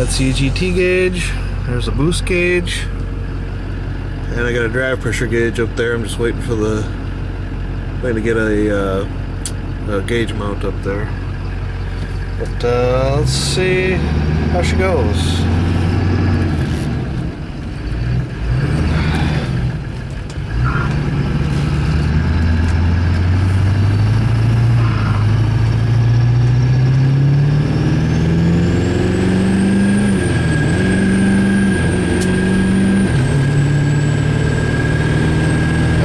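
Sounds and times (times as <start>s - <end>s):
diesel pickup engine accelerating: 0.0s - 36.0s.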